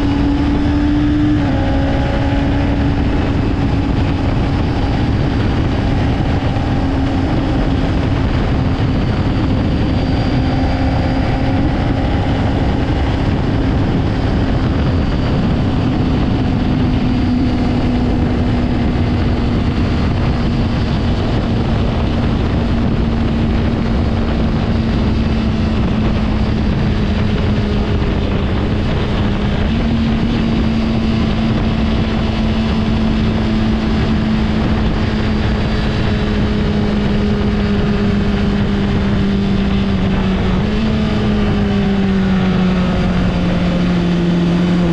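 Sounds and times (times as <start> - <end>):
motorcycle engine running: 0.0 - 44.9
wind noise on microphone: 0.0 - 44.9.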